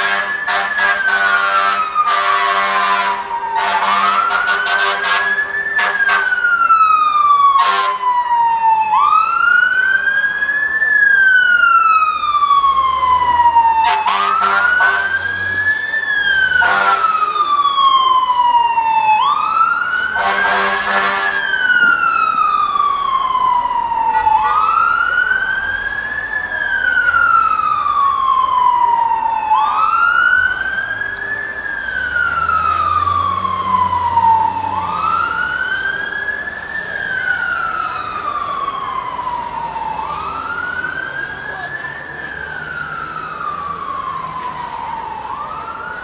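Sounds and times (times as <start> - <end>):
fire engine siren wailing: 0.0 - 46.0.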